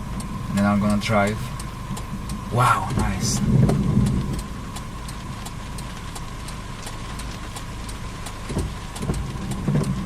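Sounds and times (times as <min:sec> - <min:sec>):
car engine idling: 0:00.0 - 0:10.0
faint even ticking: 0:00.0 - 0:10.0.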